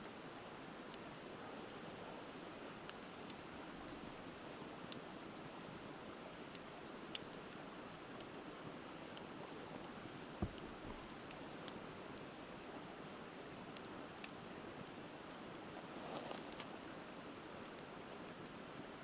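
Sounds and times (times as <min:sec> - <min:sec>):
campfire crackling and popping: 0:00.1 - 0:19.0.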